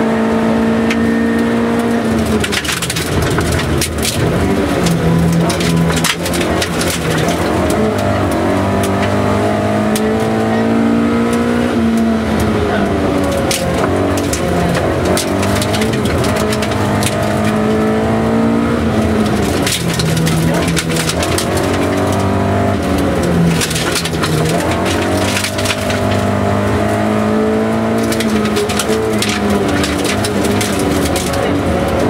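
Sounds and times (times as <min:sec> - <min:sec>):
rally car engine revving: 0:00.0 - 0:32.0
gravel clattering on underside: 0:01.8 - 0:10.4, 0:11.3 - 0:32.0.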